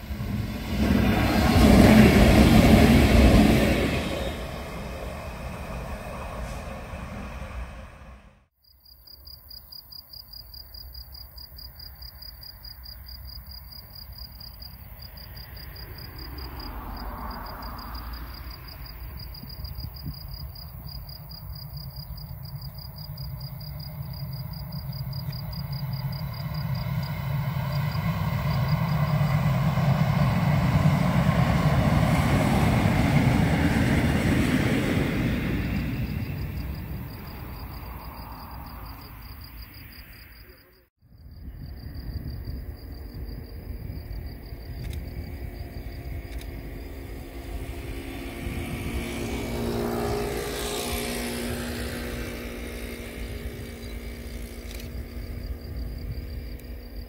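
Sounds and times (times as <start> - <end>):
train rumbling: 0.0 - 8.5, 11.3 - 57.0
crickets chirping: 8.6 - 57.0.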